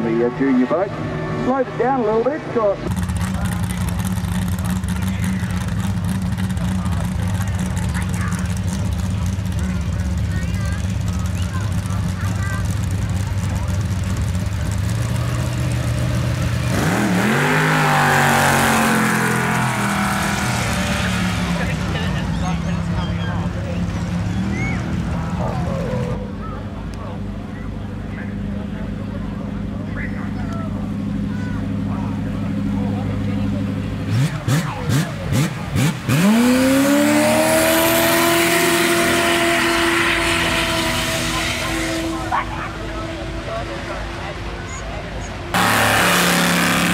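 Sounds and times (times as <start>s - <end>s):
boat engine revving: 0.8s - 26.4s, 30.7s - 46.9s.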